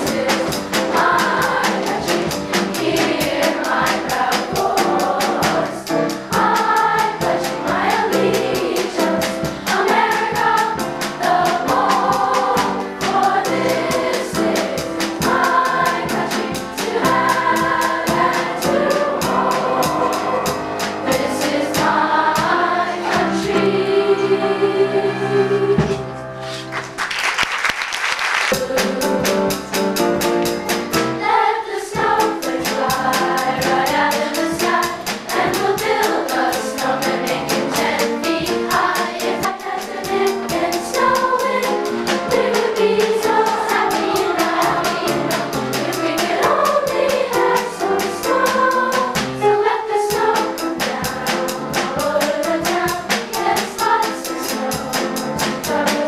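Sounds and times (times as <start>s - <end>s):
instrumental accompaniment with beat: 0.0s - 24.3s, 25.7s - 56.0s
children's choir singing: 0.0s - 26.8s, 28.4s - 56.0s.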